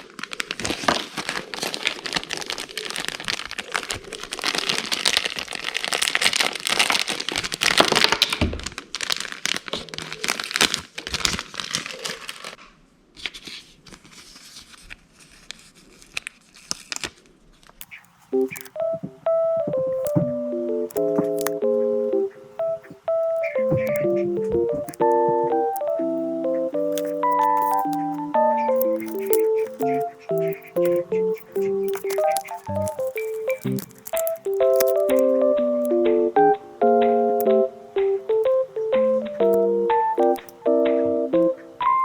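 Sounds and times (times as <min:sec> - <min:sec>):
packaging crinkling and tearing: 0:00.0 - 0:12.6, 0:13.2 - 0:20.3, 0:20.9 - 0:36.1, 0:37.4 - 0:40.9.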